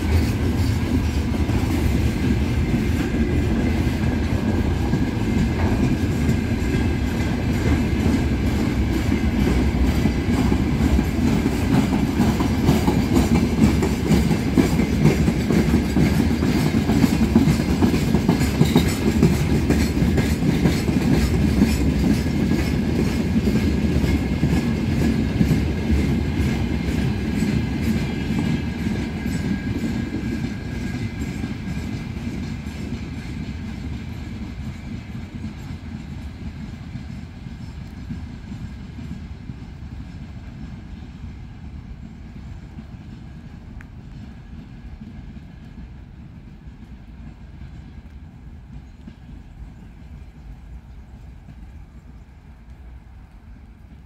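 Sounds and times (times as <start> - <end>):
train wheels clickety-clack: 0.0 - 54.0.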